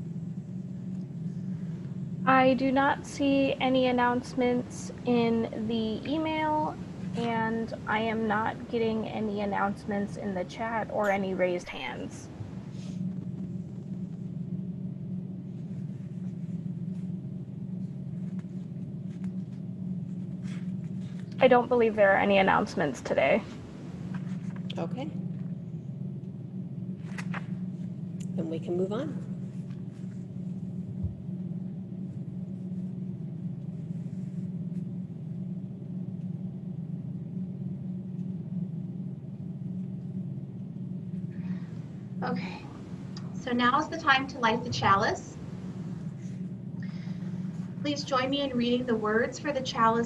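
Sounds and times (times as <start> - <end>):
low room hum: 0.0 - 50.0.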